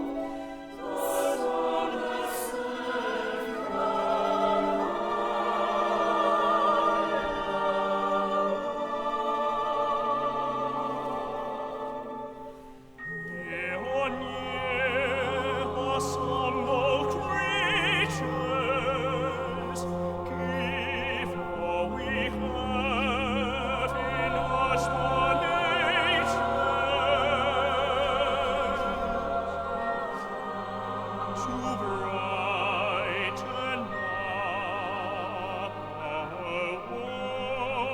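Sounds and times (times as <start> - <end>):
operatic singing with vibrato: 0.0 - 37.9
sustained accompaniment: 0.0 - 37.9.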